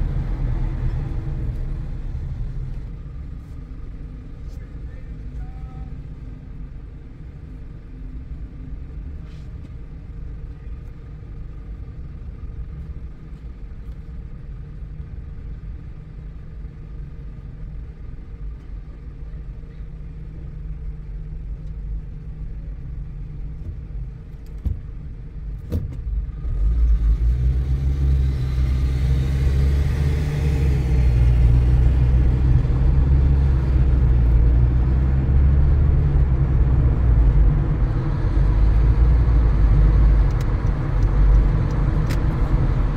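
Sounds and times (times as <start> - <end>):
low road rumble: 0.0 - 42.9.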